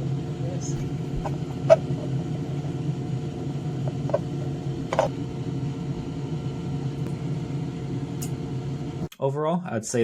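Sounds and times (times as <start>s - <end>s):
electric fan humming: 0.0s - 10.0s.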